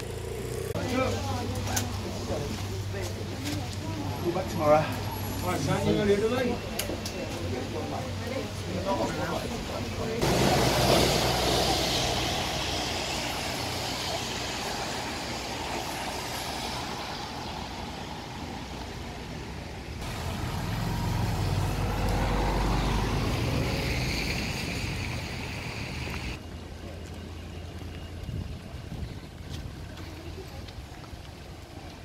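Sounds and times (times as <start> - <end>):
cars passing on wet road: 0.0 - 29.0.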